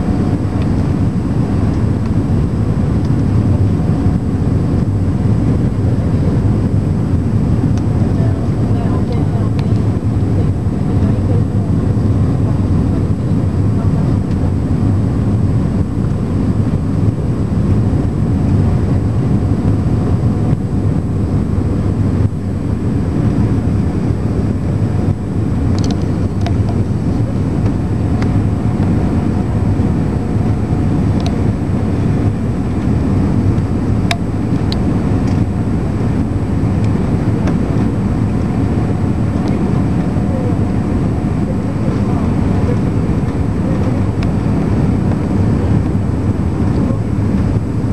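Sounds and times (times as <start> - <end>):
jet engine cabin rumble: 0.0 - 47.9.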